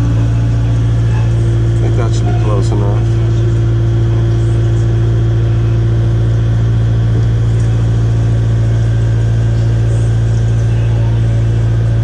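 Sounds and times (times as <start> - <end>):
excavator diesel engine drone: 0.0 - 12.0.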